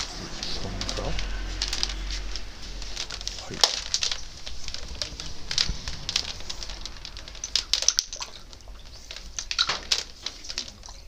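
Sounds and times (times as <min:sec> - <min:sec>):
hose clicks and rustles: 0:00.0 - 0:11.0.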